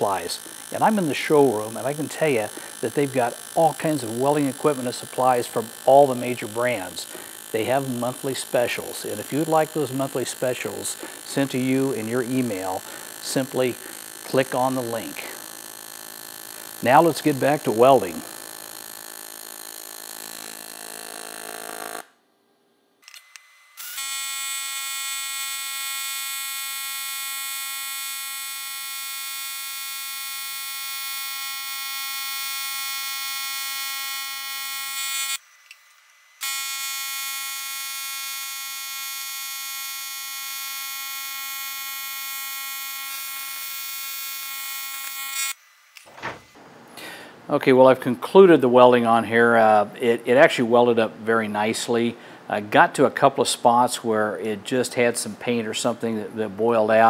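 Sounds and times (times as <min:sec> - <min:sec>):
welding arc buzzing: 0:00.0 - 0:22.2, 0:23.0 - 0:47.3.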